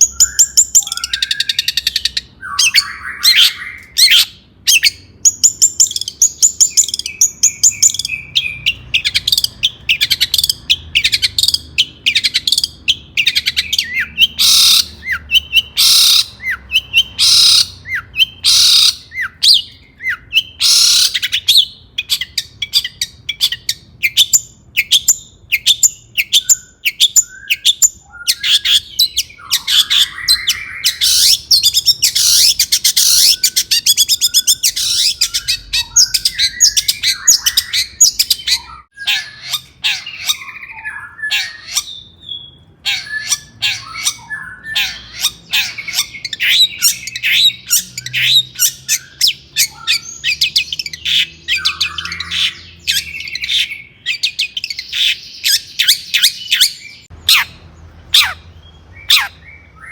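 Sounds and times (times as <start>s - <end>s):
bird chirping and whistling: 0.0s - 59.9s
harsh rasping bird calls: 0.0s - 59.9s.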